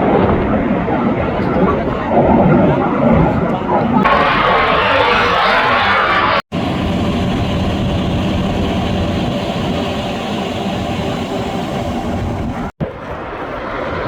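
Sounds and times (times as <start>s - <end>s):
aircraft engine rumbling: 1.3s - 12.8s.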